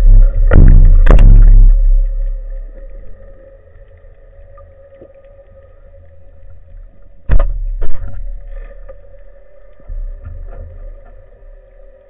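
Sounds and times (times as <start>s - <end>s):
underwater hum: 0.0s - 12.0s.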